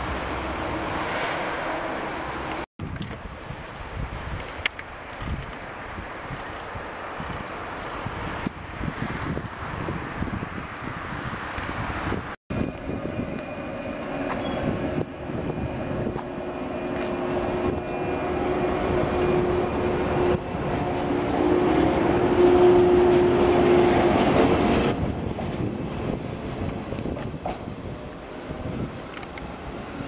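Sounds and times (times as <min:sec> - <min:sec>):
electric train passing: 0:00.0 - 0:02.6, 0:03.4 - 0:30.0.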